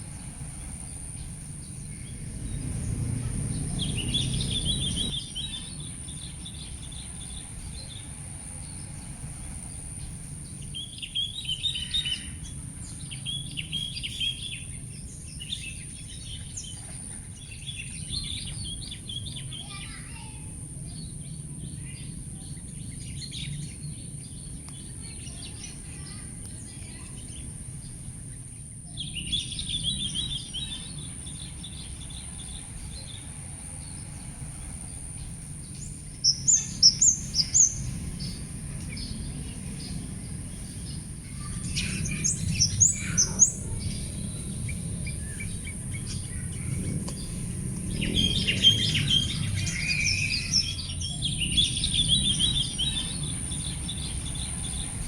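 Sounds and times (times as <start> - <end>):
birds chirping and calling: 0.0 - 55.0
low background rumble: 0.0 - 55.0.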